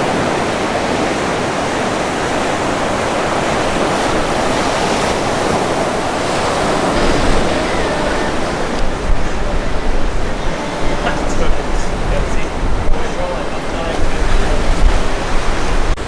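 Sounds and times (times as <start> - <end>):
ocean surf waves: 0.0 - 16.0
wind rumbling on microphone: 0.0 - 16.0.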